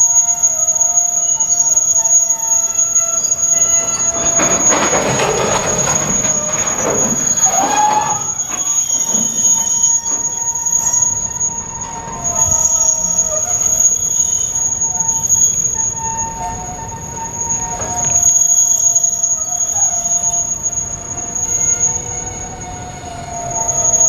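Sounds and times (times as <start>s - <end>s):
low rolling rumble of wagons: 0.0s - 24.0s
train wheels and brakes squealing: 0.0s - 24.0s.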